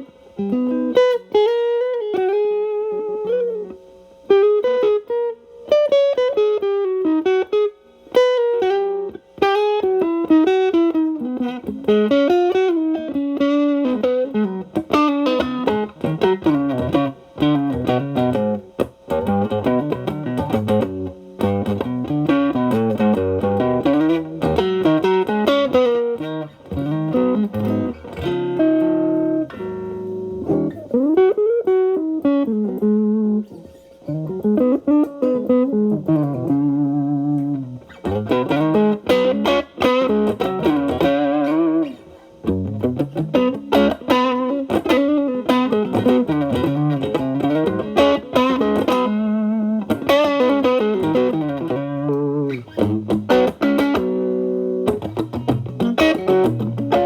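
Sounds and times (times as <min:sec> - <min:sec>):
electric guitar lead lines: 0:00.0 - 0:57.0.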